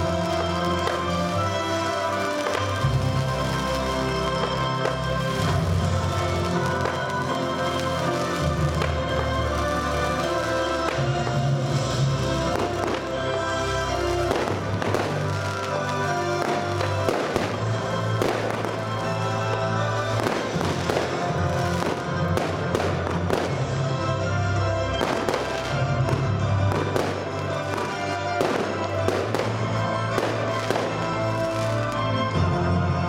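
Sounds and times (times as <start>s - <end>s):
fireworks bangs and crackle: 0.0s - 33.0s.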